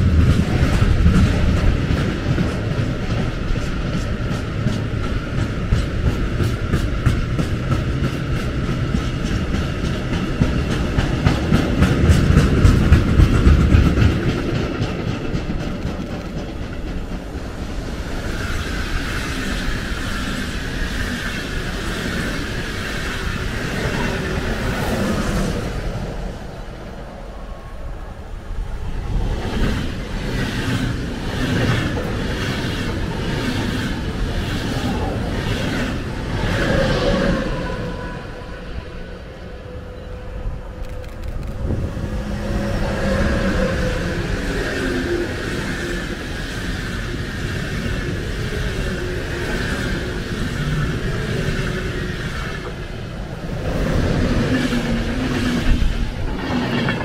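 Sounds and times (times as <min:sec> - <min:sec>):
wheels clattering on rails: 0:00.0 - 0:26.6, 0:28.6 - 0:38.1, 0:40.9 - 0:57.0
electric locomotive passing: 0:00.0 - 0:57.0
train rushing past: 0:00.0 - 0:57.0.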